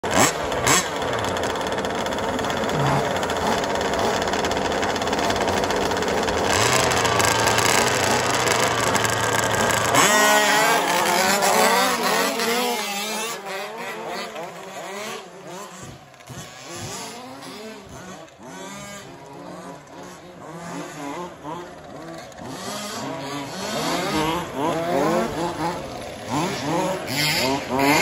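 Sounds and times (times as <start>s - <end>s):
rc trucks racing: 0.0s - 28.0s.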